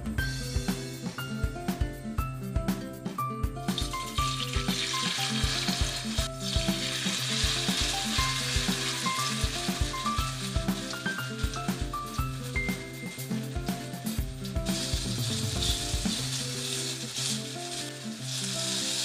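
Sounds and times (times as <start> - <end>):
background music with steady beat: 0.0 - 19.0
batter sizzling in hot oil: 3.7 - 19.0.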